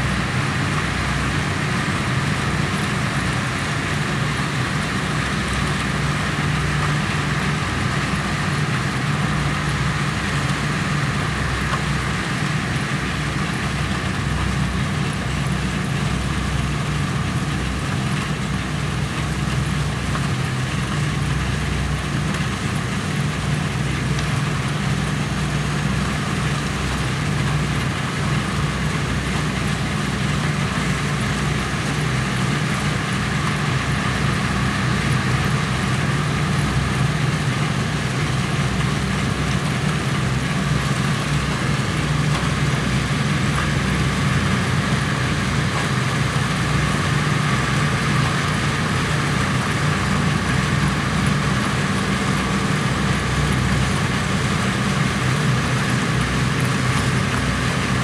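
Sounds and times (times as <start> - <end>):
harvester engines droning: 0.0 - 58.0
rush of working machinery: 0.0 - 58.0.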